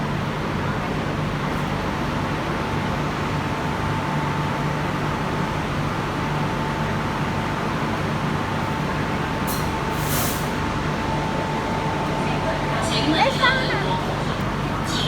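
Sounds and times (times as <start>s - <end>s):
train carriage low hum: 0.0s - 15.0s.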